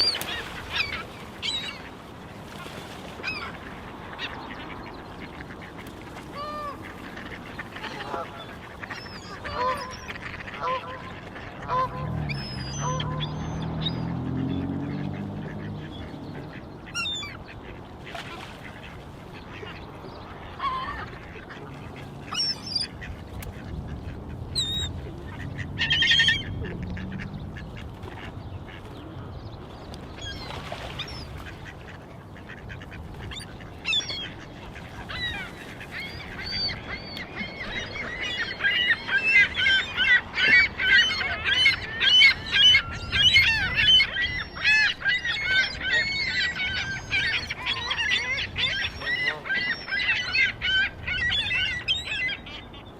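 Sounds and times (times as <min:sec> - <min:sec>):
waterbirds honking: 0:00.0 - 0:52.9.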